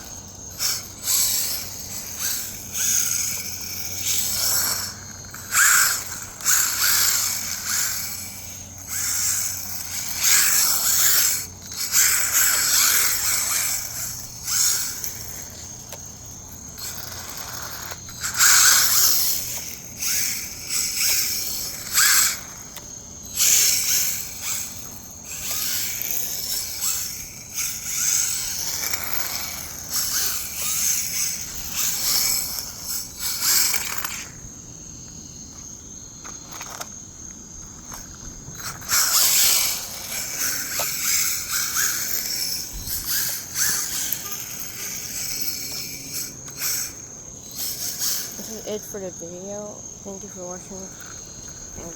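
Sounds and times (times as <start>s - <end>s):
rc car motor whine: 0.0s - 51.9s
tyres scraping loose dirt: 0.0s - 51.9s.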